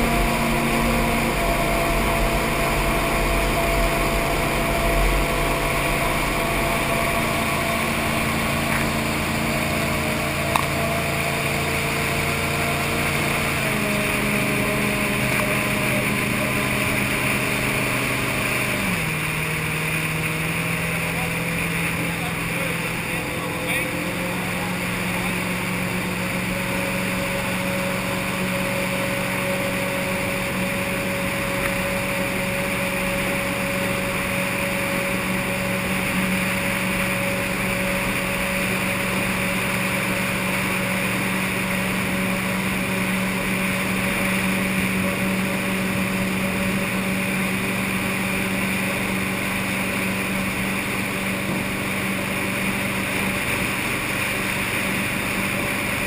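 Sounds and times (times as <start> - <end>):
jet boat engine drone: 0.0 - 56.0
rushing water hiss: 0.0 - 56.0.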